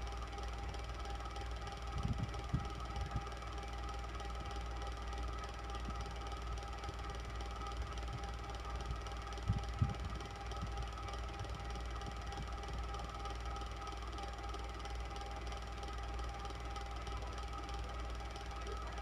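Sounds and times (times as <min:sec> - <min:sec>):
electric fan whirring: 0:00.0 - 0:19.0.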